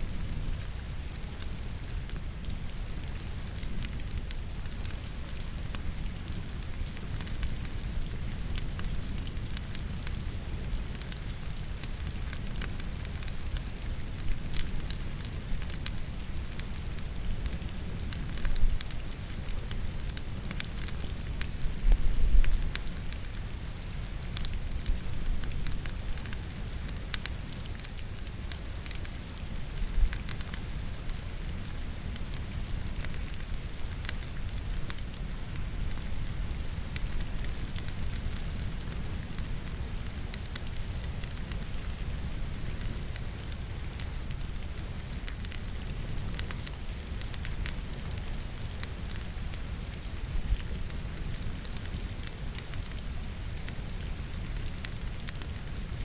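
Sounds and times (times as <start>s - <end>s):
firewood crackling and popping: 0.0s - 56.0s
rain: 0.0s - 56.0s.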